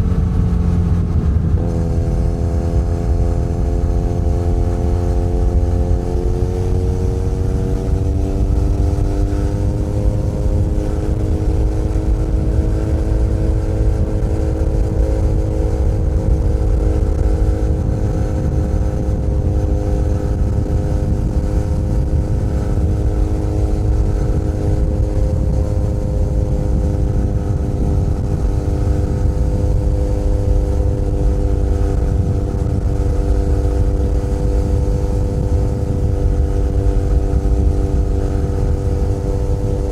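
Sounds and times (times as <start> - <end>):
motorcycle engine running at speed: 0.0 - 39.9.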